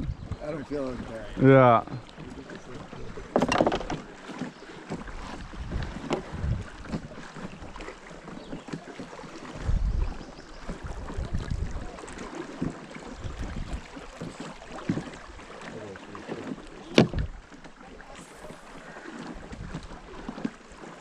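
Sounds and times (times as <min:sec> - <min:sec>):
knocks and bumps in boat: 0:00.0 - 0:21.0.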